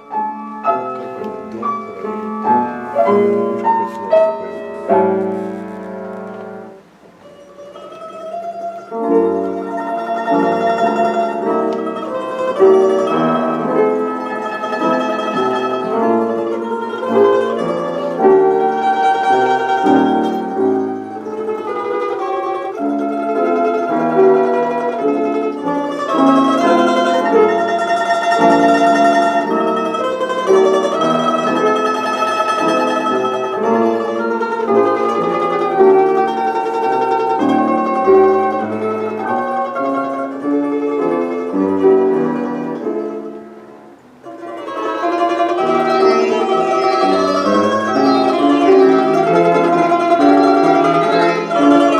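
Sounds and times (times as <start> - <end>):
plucked string melody: 0.0 - 51.9.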